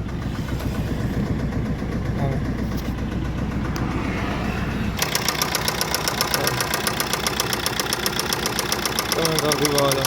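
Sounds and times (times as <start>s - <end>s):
diesel engine idling: 0.0s - 10.0s
engine knocking: 0.0s - 10.0s.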